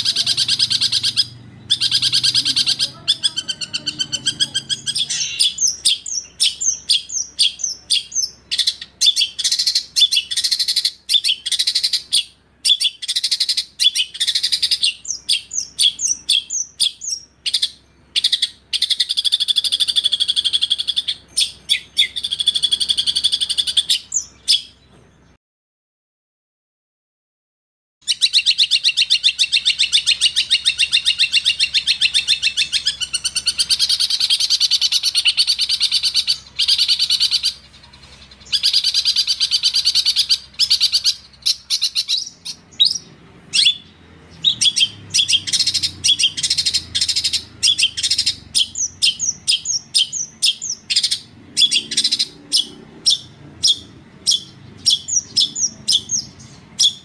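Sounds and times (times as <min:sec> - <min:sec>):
songbird trilling: 0:00.0 - 0:24.9, 0:28.0 - 0:57.0
bird high chirps: 0:00.0 - 0:25.4, 0:28.0 - 0:57.0.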